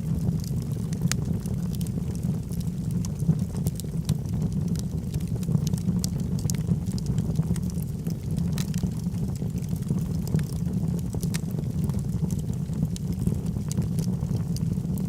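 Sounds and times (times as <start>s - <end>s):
burning wood crackles and pops: 0.0s - 15.0s
low rumble of flames: 0.0s - 15.0s.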